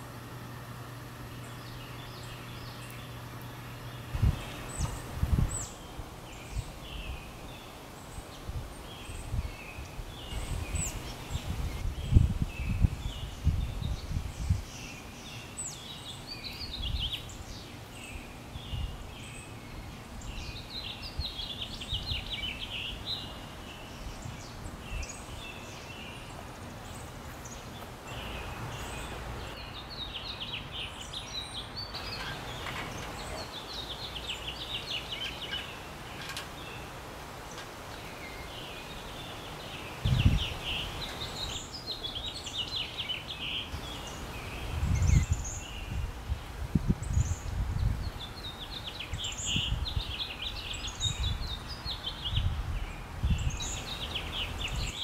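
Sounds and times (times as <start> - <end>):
outdoor background noise: 0.0 - 55.0
songbirds singing: 0.0 - 55.0.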